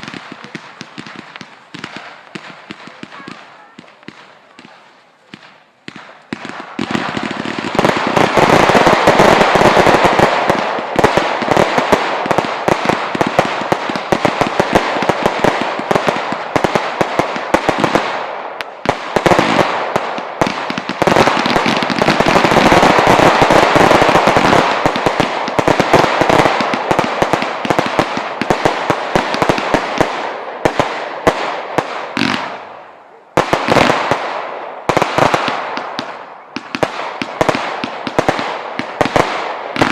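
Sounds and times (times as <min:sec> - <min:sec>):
fireworks crackling and popping: 0:00.0 - 0:39.9.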